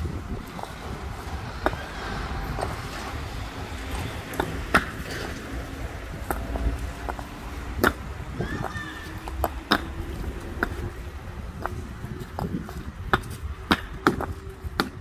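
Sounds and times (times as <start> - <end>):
paving stones clacking: 0.0 - 15.0.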